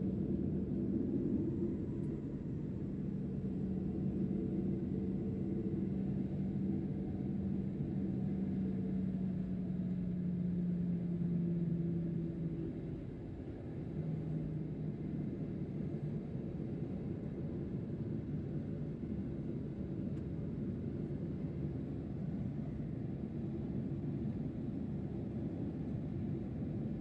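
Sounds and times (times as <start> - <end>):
jet engines rumbling in cabin: 0.0 - 27.0.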